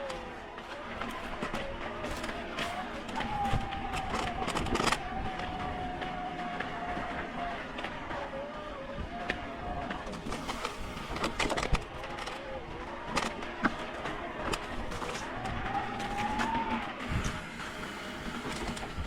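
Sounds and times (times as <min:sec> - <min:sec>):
clicks and rattles over bumps: 0:00.0 - 0:19.0
mountain bike rolling on dirt: 0:00.0 - 0:19.0.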